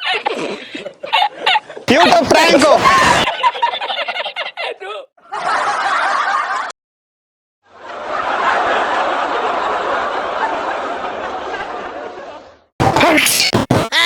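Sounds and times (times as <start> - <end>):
laughter: 0.0 - 6.8, 7.8 - 12.7.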